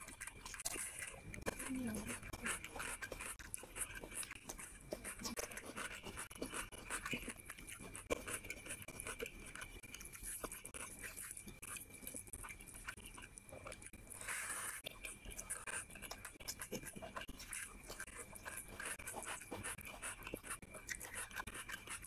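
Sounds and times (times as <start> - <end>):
wet chewing and mouth smacks: 0.0 - 22.0.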